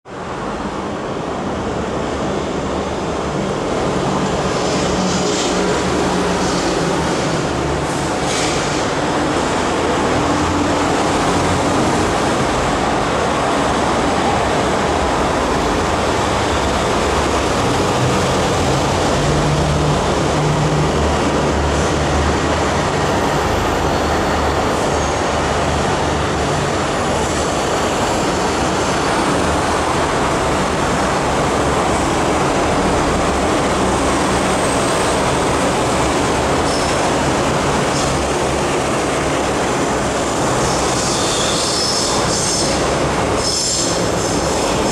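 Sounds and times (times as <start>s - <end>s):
train rumbling on track: 0.1s - 44.9s.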